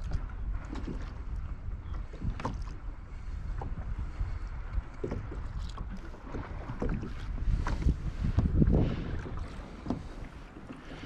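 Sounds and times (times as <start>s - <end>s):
water lapping against kayak hull: 0.0s - 11.0s
wind rumble on microphone: 0.0s - 11.0s.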